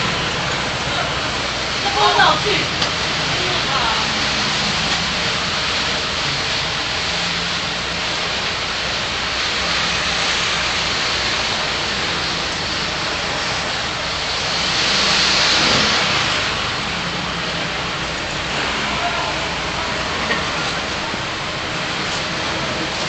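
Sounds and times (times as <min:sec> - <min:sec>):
city traffic noise: 0:00.0 - 0:23.0.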